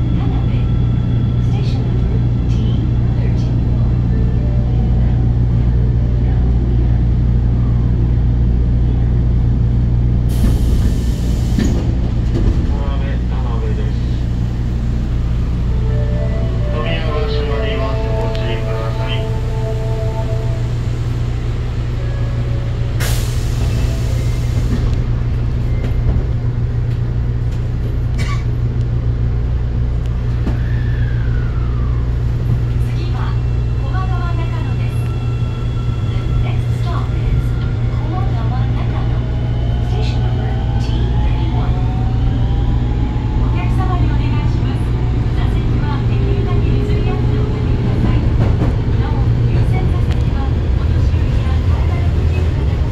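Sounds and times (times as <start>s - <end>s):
subway car motor and wheel drone: 0.0s - 52.9s.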